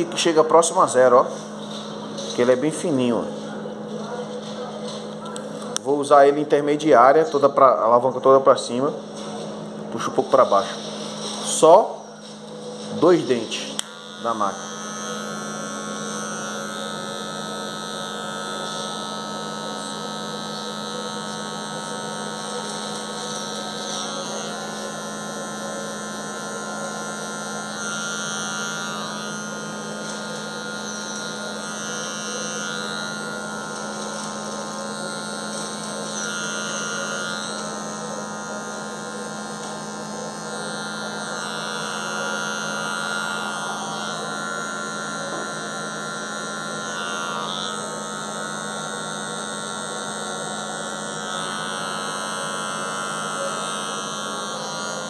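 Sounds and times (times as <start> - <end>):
electric hair clipper humming: 0.0 - 55.0.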